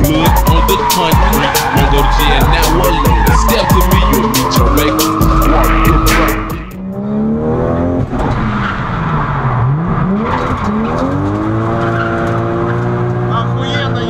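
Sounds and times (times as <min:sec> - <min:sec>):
car engine revving: 0:00.0 - 0:14.0
tyres skidding: 0:00.0 - 0:14.0.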